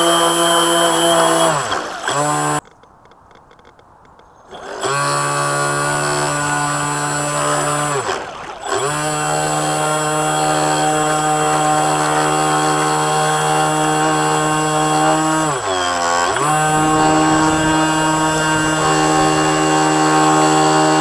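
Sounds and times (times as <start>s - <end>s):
electric motor whining: 0.0s - 2.6s, 4.5s - 21.0s.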